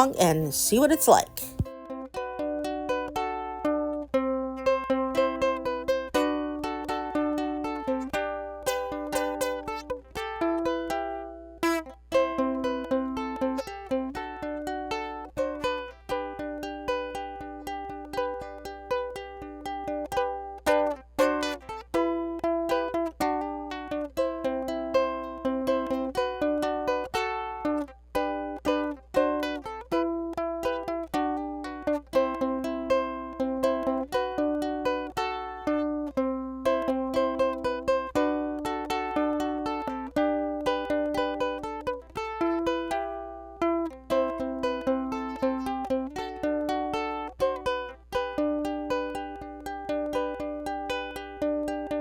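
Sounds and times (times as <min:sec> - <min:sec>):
plucked ukulele melody: 0:00.0 - 0:52.0.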